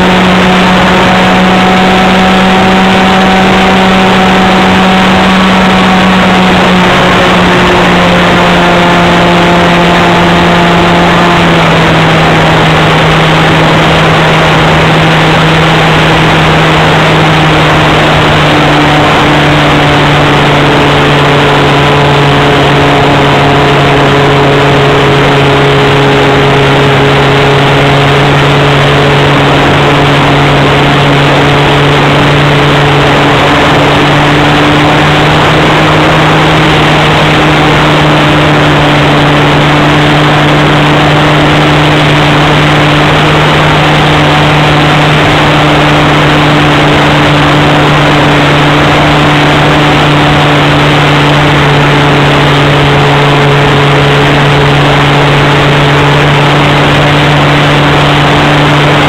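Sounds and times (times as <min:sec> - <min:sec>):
loud rushing wind noise: 0:00.0 - 0:59.0
model plane engine droning: 0:00.0 - 0:59.0.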